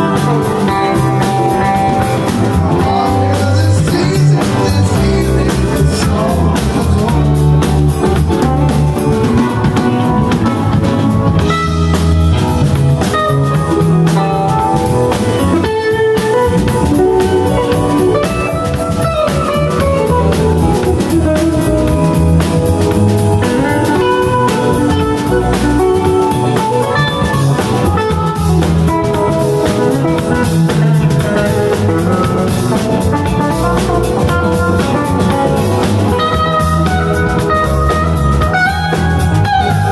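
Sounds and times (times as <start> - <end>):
electric guitar gliding notes: 0.0 - 39.9
live band playing: 0.0 - 39.9.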